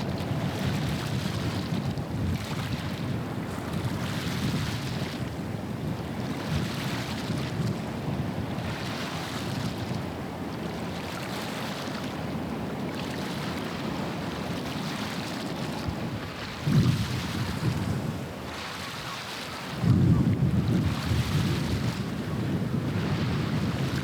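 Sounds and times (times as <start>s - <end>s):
wind rumbling on microphone: 0.0s - 10.9s, 13.6s - 24.0s
waves washing on shore: 0.0s - 24.0s.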